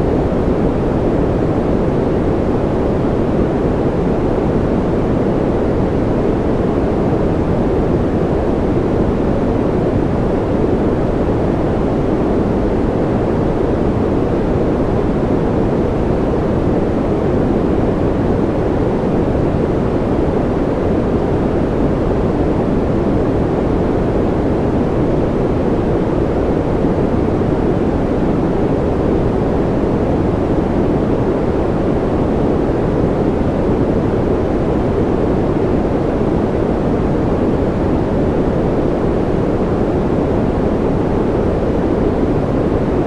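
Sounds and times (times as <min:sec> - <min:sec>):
deep white noise: 0:00.0 - 0:43.0.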